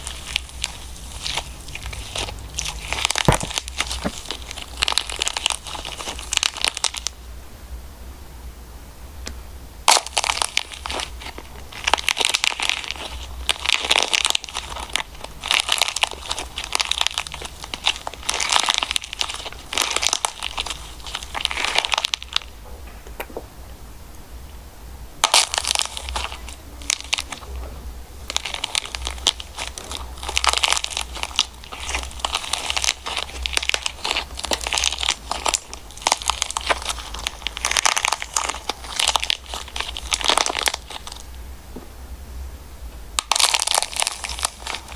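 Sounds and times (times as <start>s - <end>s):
slime crackling and popping: 0.0s - 7.2s, 9.2s - 23.4s, 25.2s - 41.4s, 43.1s - 44.9s.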